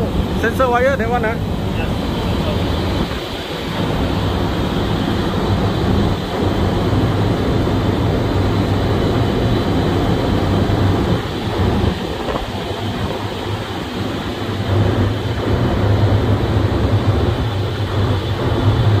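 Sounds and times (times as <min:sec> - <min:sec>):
ventilation fans rumbling: 0:00.0 - 0:19.0.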